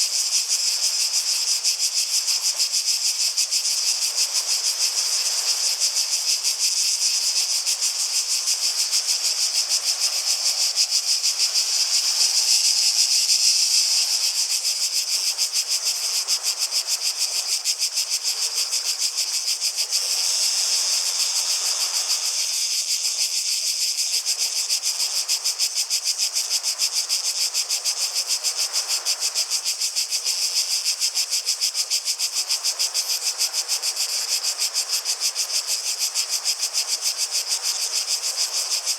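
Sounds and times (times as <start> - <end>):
cicadas buzzing: 0.0 - 38.9
faint hiss: 0.0 - 38.9.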